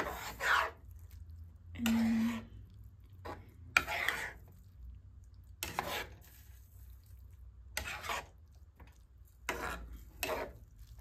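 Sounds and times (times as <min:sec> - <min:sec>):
utensil scraping noodles in pan: 0:00.0 - 0:11.0.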